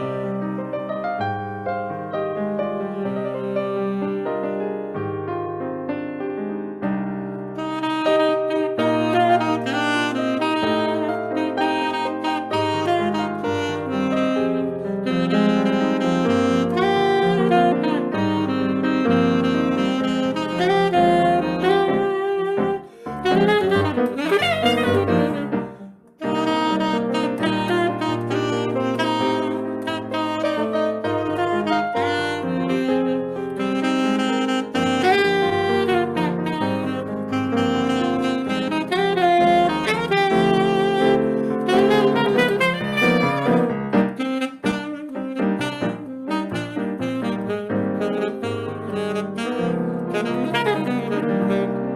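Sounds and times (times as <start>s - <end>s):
piano accompaniment: 0.0s - 51.9s
saxophone playing jazz: 0.0s - 51.9s.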